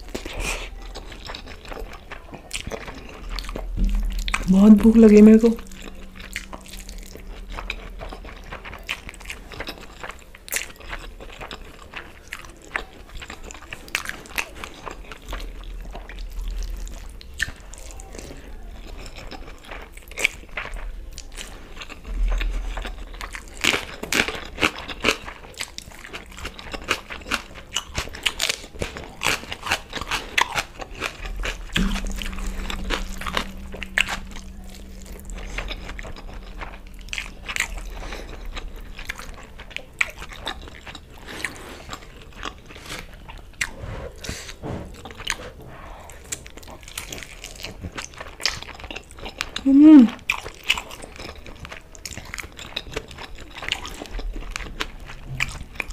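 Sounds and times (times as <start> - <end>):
wet chewing: 0.0 - 55.9.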